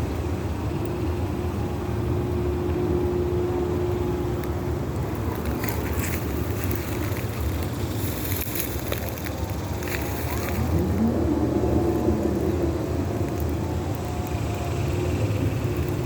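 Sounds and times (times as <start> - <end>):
locomotives rumbling: 2.0 - 16.0.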